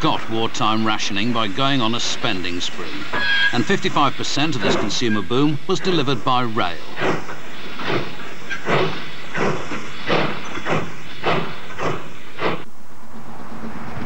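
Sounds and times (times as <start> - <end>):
steam locomotive chuffing: 0.0 - 12.7
train running rumble: 0.0 - 14.0.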